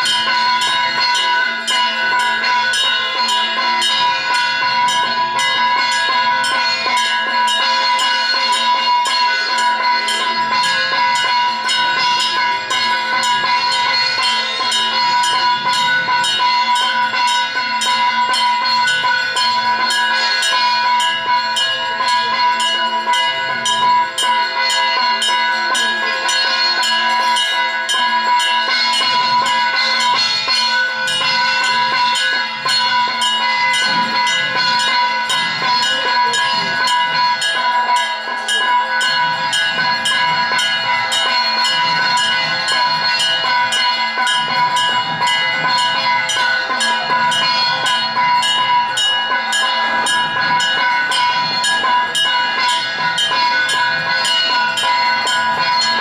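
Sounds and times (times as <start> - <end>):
bells ringing fast: 0.0 - 56.0.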